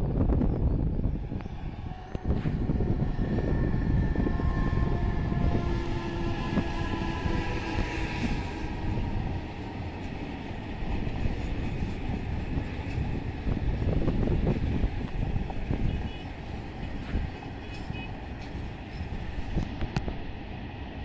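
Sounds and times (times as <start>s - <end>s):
freight train rumbling past: 0.0s - 21.0s
locomotive humming tone: 0.0s - 21.0s.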